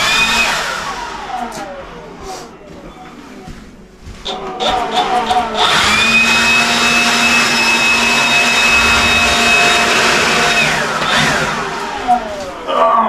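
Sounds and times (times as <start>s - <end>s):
electric fan motor whining: 0.0s - 13.0s.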